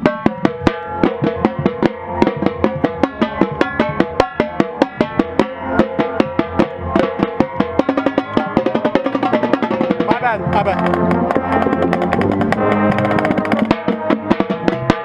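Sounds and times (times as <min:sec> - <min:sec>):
snare and bass drums beat: 0:00.0 - 0:15.0
wind and brass chords: 0:00.0 - 0:15.0.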